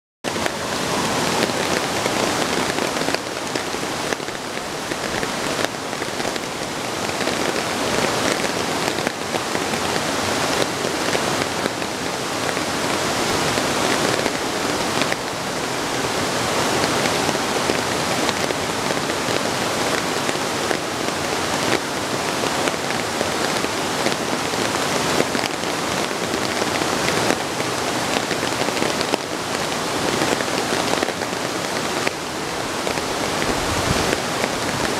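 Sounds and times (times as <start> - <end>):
steady rain pattering: 0.3 - 34.9.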